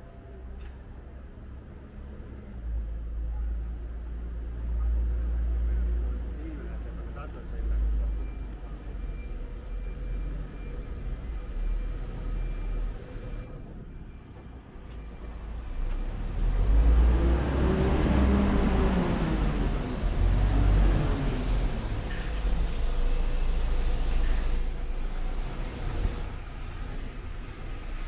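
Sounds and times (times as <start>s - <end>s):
bus engine passing by: 0.0s - 28.0s
street traffic rumble: 0.0s - 28.0s.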